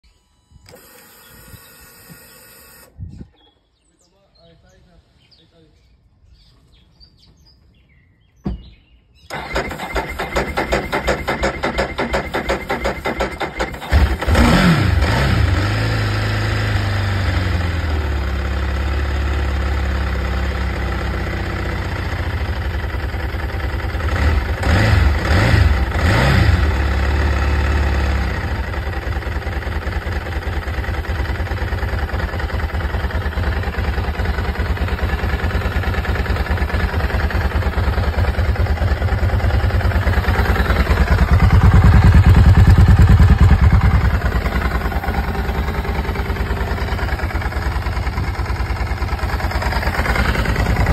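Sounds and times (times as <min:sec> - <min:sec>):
motorcycle engine starting and idling: 0:08.5 - 0:50.9
motorcycle engine revving: 0:09.3 - 0:50.9.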